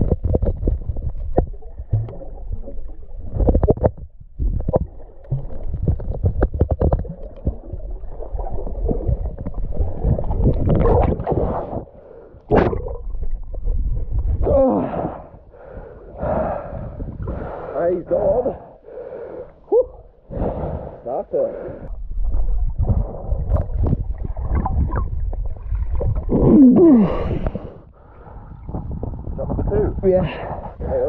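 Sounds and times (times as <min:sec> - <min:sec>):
muffled underwater churning and bubbling: 0:00.0 - 0:31.0.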